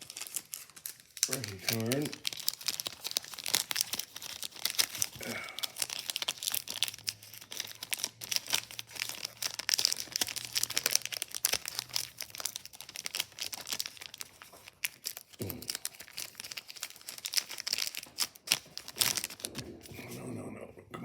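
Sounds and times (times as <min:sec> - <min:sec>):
plastic wrapper crinkling: 0:00.0 - 0:19.9.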